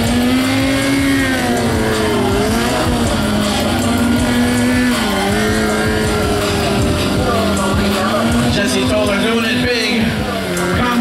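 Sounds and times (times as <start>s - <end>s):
motorcycle engine at high revs: 0.0s - 11.0s
tire spinning on asphalt: 0.0s - 11.0s.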